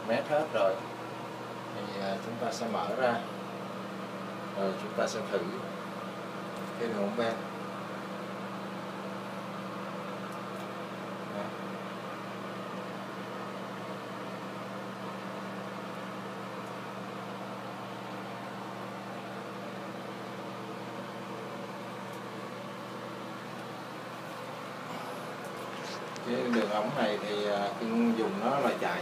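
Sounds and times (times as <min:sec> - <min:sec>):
ventilation fan humming: 0:00.0 - 0:29.0.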